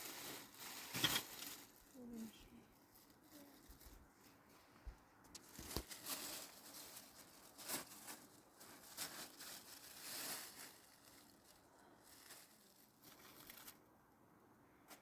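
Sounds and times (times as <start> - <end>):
rustling and scraping handling noise: 0.0 - 13.9.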